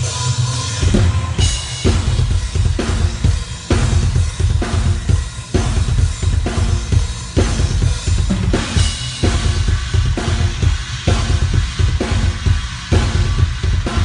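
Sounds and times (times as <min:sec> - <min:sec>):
cymbals: 0:00.0 - 0:14.0
bass drum: 0:00.8 - 0:14.0.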